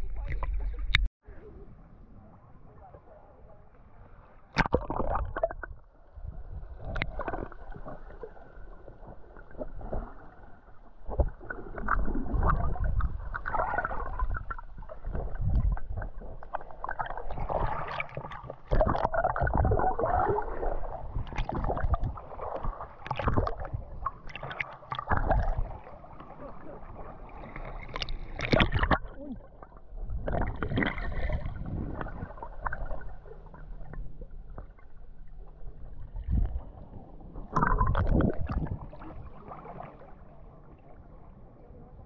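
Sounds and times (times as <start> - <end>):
water sloshing and splashing: 4.5 - 41.4.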